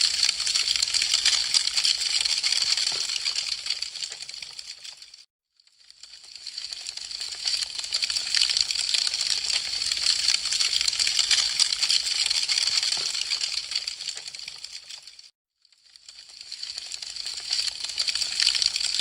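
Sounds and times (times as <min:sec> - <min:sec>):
wood fire crackling: 0:00.0 - 0:05.2, 0:06.0 - 0:15.2, 0:16.0 - 0:19.0.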